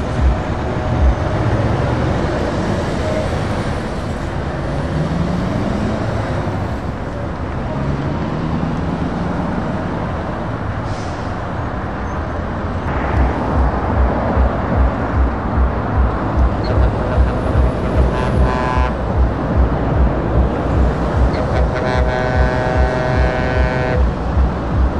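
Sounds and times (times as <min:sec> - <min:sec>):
road traffic: 0:00.0 - 0:24.9
truck engine accelerating: 0:00.0 - 0:24.9.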